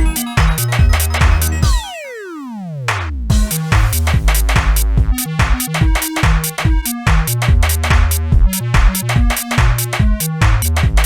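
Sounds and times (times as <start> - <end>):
drum-machine beat: 0.0 - 1.9, 2.9 - 11.0
choppy synth bassline: 0.0 - 11.0.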